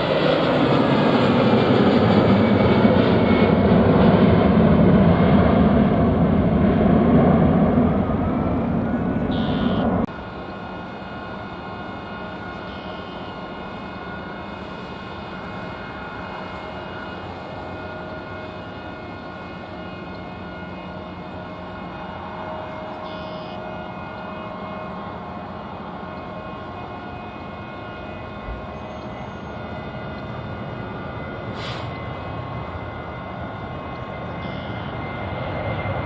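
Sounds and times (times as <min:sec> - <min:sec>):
airliner engines running: 0:00.0 - 0:36.0.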